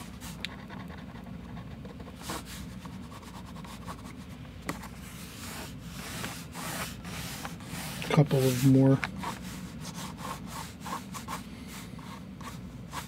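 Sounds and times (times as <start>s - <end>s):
marker scratching on paper: 0.0s - 13.0s
steady low hum: 0.0s - 13.0s.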